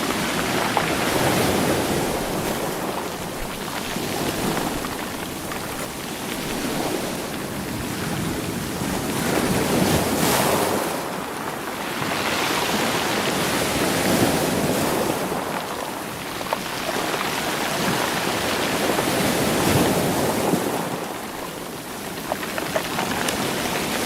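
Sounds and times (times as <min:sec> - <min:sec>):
sea waves surging against rocks: 0:00.0 - 0:24.0.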